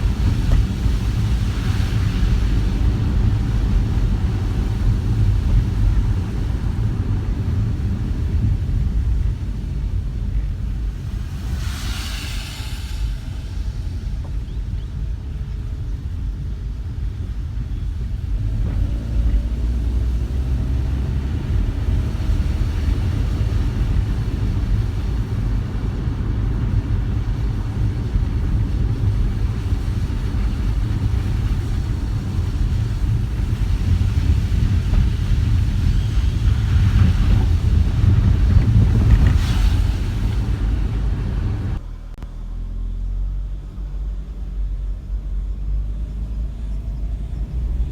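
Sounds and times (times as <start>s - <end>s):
road hiss: 0.0s - 47.8s
car road and engine rumble: 0.0s - 47.9s.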